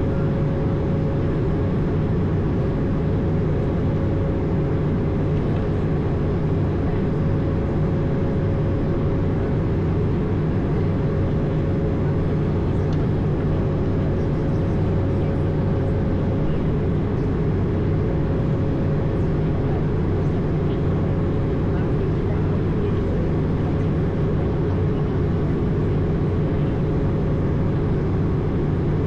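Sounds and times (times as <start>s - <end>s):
aircraft cabin engine drone: 0.0s - 29.0s.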